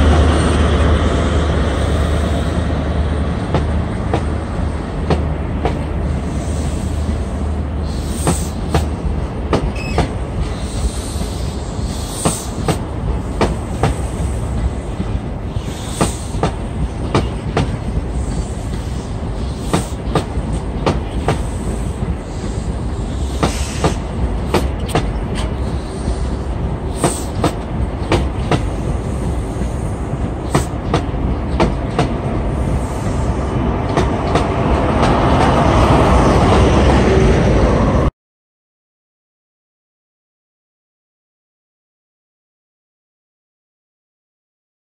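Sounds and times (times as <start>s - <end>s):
passenger train rumbling past: 0.0s - 38.1s.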